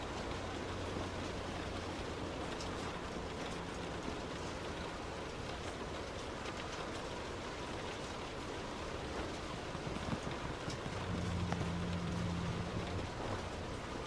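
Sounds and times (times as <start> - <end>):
heavy rain on car: 0.0 - 14.0
road and engine rumble: 0.0 - 14.0.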